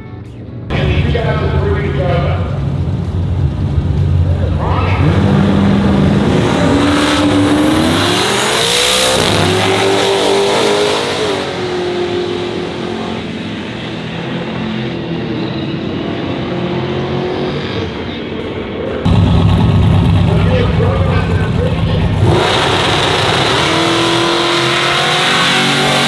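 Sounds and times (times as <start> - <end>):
car engine accelerating: 0.7 - 26.0.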